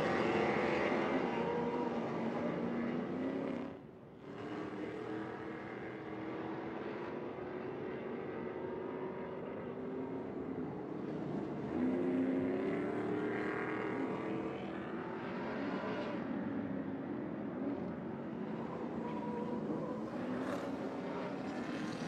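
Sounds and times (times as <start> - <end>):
truck engines racing by: 0.0 - 22.0.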